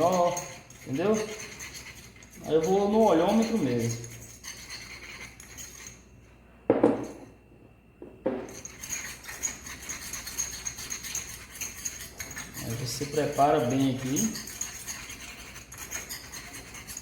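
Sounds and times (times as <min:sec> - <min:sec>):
spatula scraping in a pot: 0:00.0 - 0:06.1, 0:08.5 - 0:17.0.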